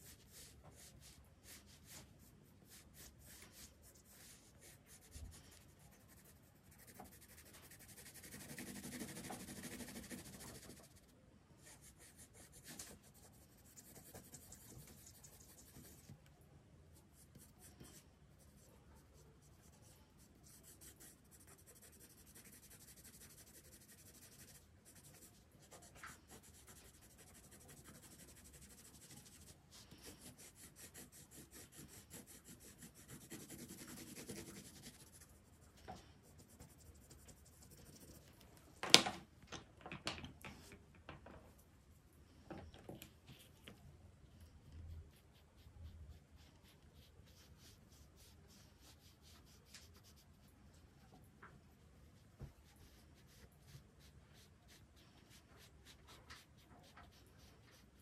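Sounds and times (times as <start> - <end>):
pencil scratching on paper: 0.0 - 16.2, 17.1 - 35.6, 36.2 - 38.3, 44.7 - 50.5, 52.1 - 58.0.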